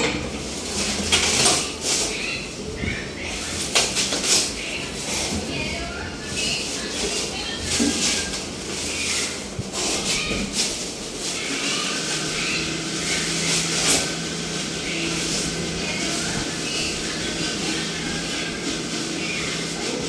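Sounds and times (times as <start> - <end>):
air compressor humming: 0.0 - 20.0.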